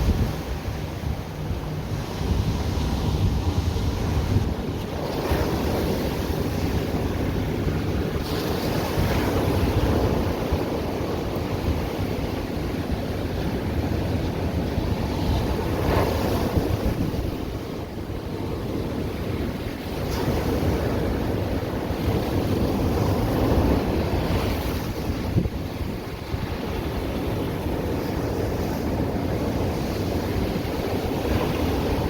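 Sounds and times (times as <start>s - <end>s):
surf washing up the beach: 0.0s - 32.0s.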